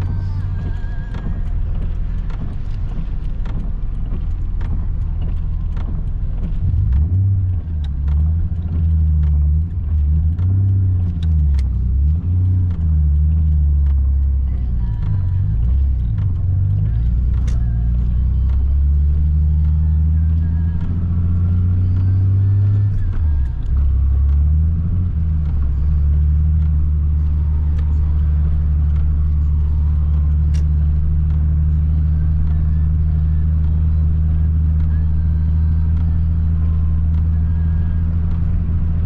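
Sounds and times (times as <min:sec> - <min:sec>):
car engine humming: 0:00.0 - 0:39.0.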